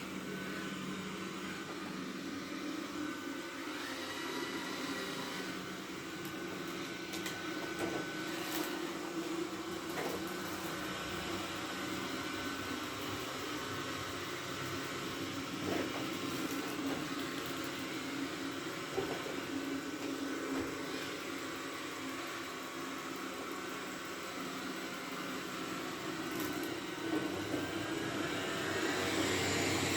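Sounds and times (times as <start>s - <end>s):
robot vacuum motor whirring: 0.0s - 29.9s.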